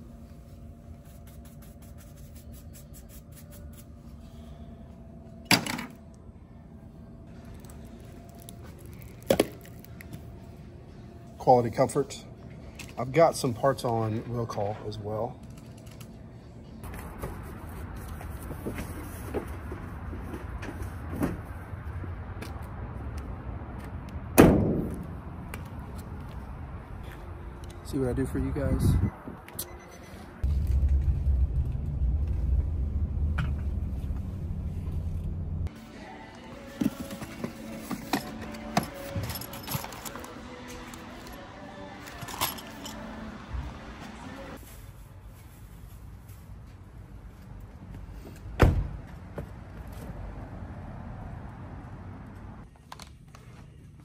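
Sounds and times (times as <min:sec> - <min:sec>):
low hum of store interior: 0:00.0 - 0:54.0.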